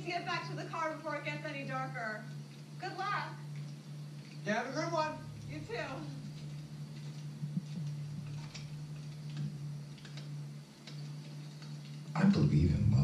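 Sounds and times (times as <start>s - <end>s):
bonfire crackling on tv: 0.0s - 13.0s
steady low hum: 0.0s - 13.0s.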